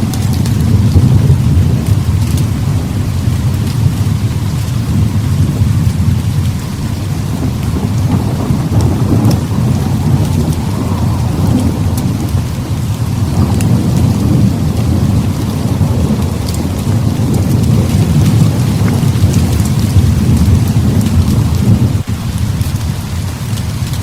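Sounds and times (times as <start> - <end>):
heavy rain hissing: 0.0 - 24.0
rolling thunder rumble: 0.0 - 24.0.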